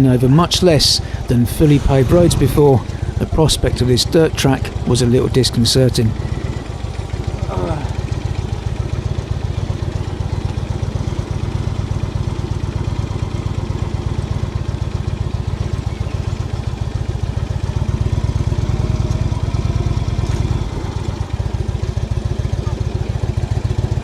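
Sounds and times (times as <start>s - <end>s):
motorcycle engine running: 0.2s - 24.0s.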